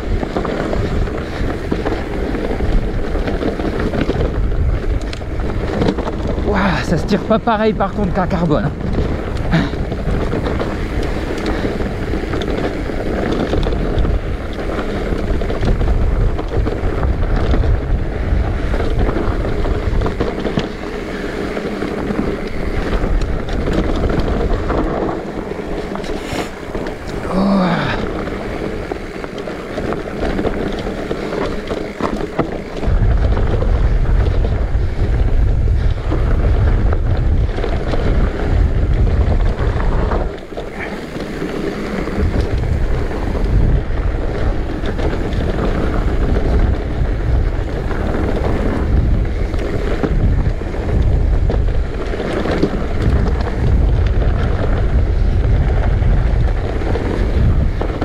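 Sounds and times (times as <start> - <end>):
bike tyres rolling on dirt: 0.0 - 58.0
wind buffeting microphone: 0.0 - 58.0.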